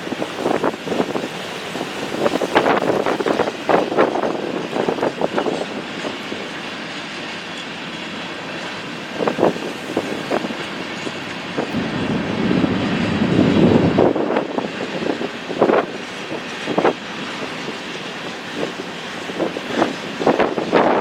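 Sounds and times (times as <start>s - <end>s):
train rumbling on tracks: 0.0s - 21.0s.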